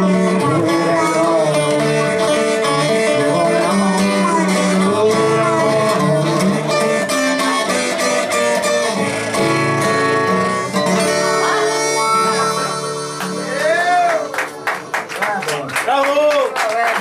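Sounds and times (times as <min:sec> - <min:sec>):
harmonica wavering notes: 0:00.0 - 0:14.7
plucked acoustic guitar: 0:00.0 - 0:15.7.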